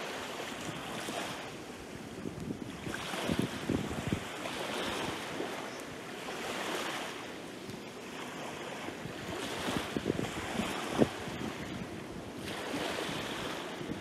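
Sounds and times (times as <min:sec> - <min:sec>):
waves washing up a beach: 0:00.0 - 0:14.0
wind buffeting microphone: 0:00.0 - 0:14.0.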